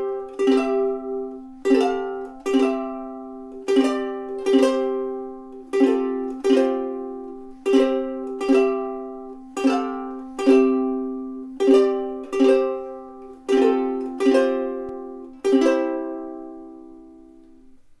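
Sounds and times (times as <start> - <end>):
ukulele strumming chords: 0.0 - 18.0.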